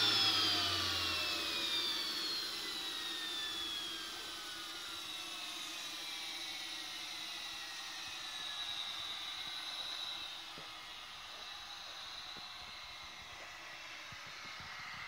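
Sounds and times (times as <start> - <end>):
turbine whine: 0.0 - 15.0.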